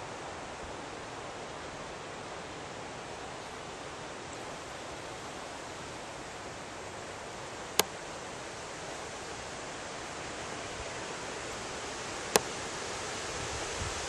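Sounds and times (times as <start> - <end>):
outdoor ambience hiss: 0.0 - 14.0.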